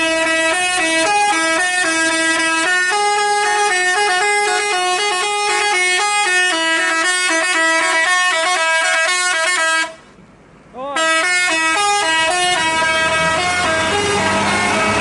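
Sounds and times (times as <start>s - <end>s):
multi-trumpet air horn melody: 0.0s - 10.0s, 11.0s - 15.0s.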